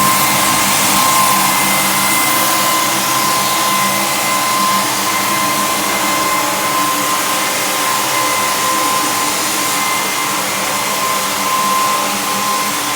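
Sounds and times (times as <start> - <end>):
floor sander running: 0.0 - 12.9.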